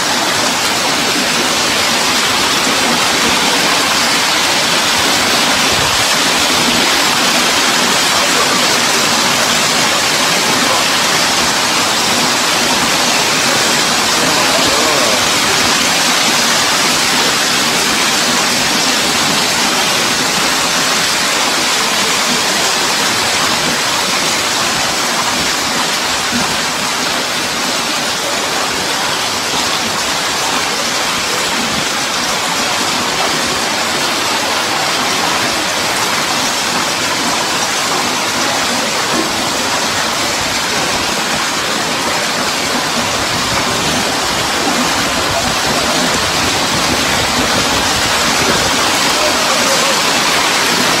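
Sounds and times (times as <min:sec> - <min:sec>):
hail pelting on paving: 0:00.0 - 0:51.0.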